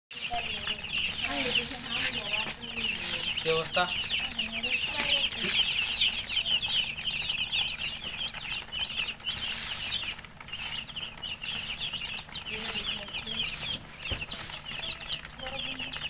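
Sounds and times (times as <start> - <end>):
chicks peeping: 0.1 - 16.0.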